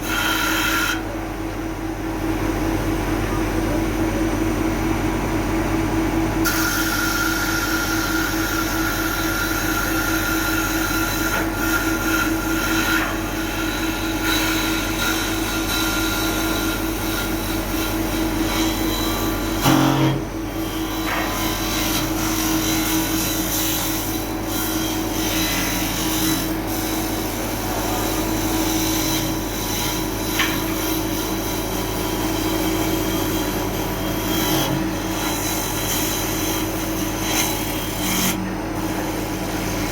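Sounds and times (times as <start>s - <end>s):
tool rasping on wood: 0.0s - 1.0s, 6.5s - 39.9s
wood lathe machine hum: 0.0s - 39.9s.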